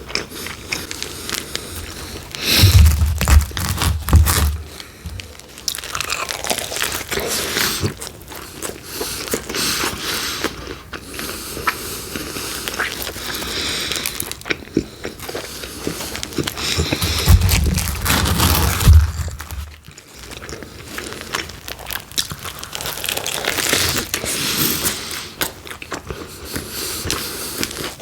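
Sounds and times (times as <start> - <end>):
biting and crunchy chewing: 0.0 - 28.0.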